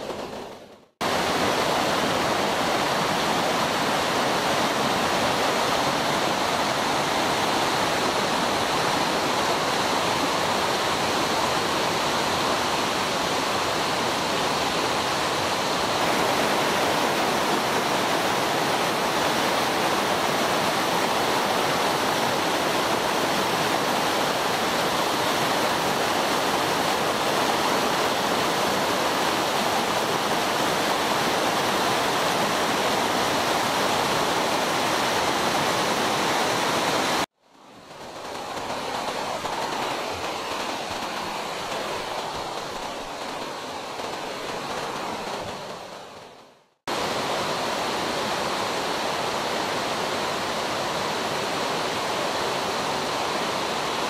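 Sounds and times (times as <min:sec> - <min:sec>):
water rushing over boulders: 0:00.0 - 0:54.0.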